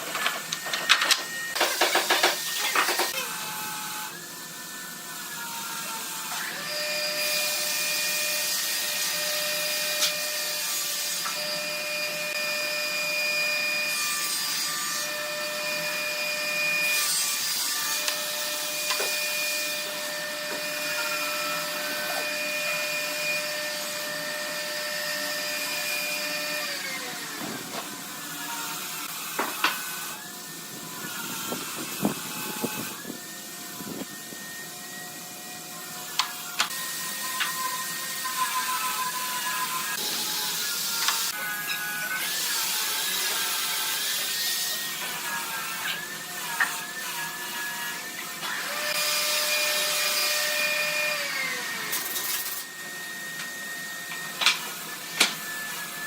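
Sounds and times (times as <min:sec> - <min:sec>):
power tool whining on wood: 0:00.0 - 0:56.0.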